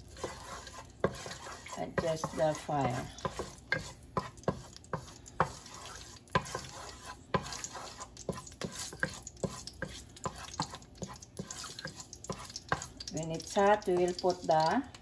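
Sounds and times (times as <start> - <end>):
wooden spoon scraping a metal pot: 0.0 - 14.7.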